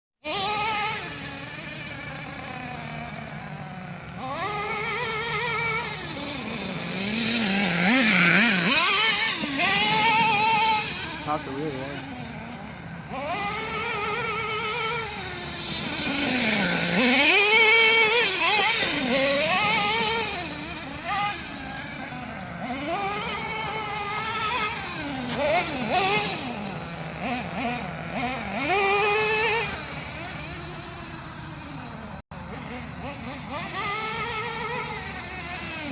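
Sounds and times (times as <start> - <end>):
rc truck nitro engine revving: 0.2 - 35.9.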